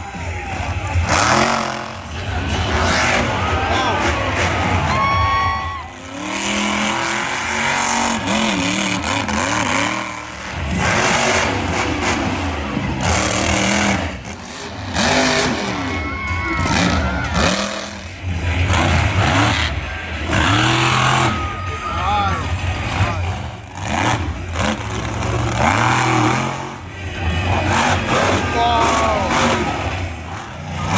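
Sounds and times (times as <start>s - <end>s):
monster truck engine revving: 0.0s - 30.9s.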